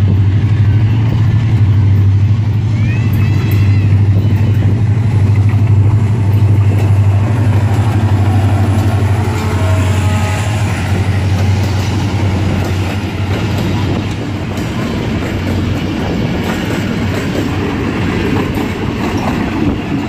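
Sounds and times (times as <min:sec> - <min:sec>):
locomotive diesel engine drone: 0:00.0 - 0:19.1.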